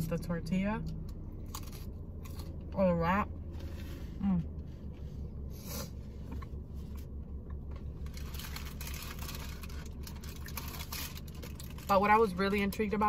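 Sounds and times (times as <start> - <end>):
low hum in car: 0.0 - 13.0.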